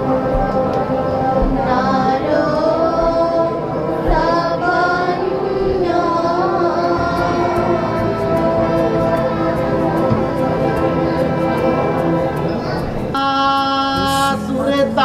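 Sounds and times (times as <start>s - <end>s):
held accompaniment notes: 0.0s - 15.0s
high voices singing: 0.0s - 15.0s.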